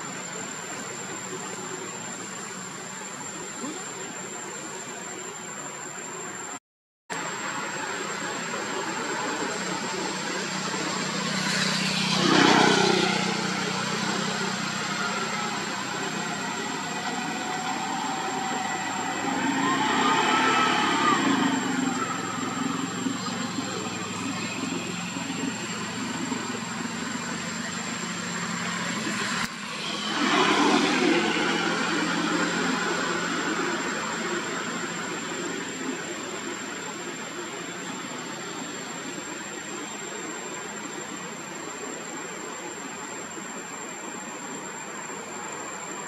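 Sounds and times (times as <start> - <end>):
rising and falling whine: 7.1 - 45.6
motor traffic hum: 7.2 - 46.0.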